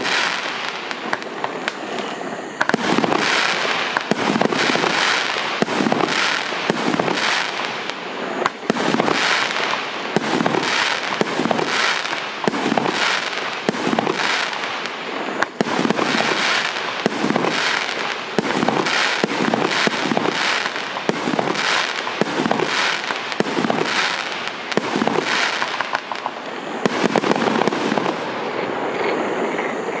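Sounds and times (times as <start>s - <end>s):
fireworks cake firing: 0.0s - 29.3s.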